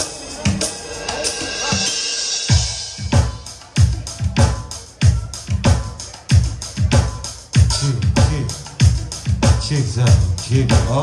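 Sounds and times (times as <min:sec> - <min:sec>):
drum kit playing steady beat: 0:00.0 - 0:11.0.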